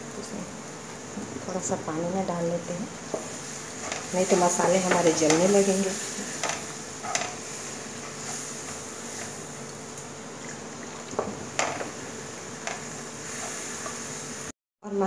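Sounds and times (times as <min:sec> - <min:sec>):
food sizzling in oil: 0:00.6 - 0:14.5.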